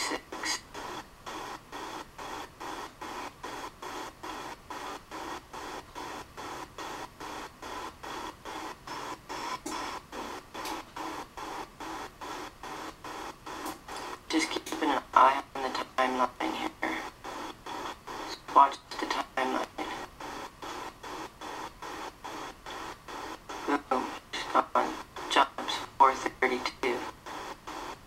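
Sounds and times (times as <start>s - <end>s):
steady pulsing noise: 0.0s - 28.0s.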